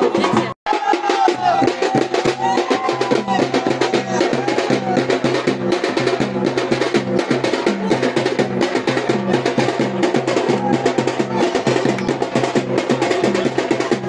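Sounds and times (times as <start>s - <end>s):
fast dense drumming: 0.0s - 14.0s.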